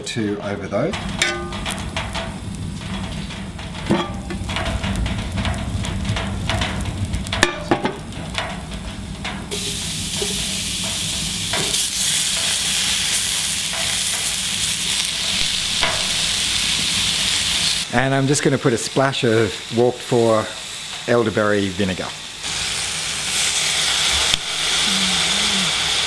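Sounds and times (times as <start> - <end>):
food sizzling in hot fat: 0.9 - 26.0.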